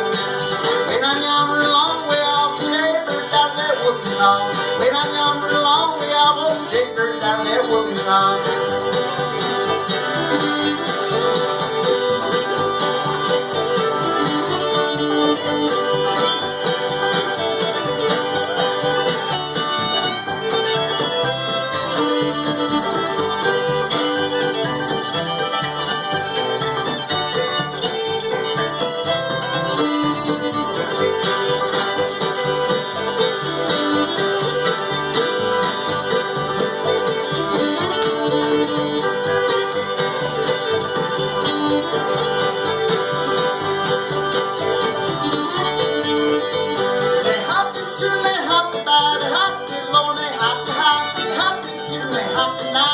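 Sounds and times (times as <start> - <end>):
banjo: 0.0 - 52.9
fiddle melody: 0.0 - 52.9
guitar: 0.0 - 52.9.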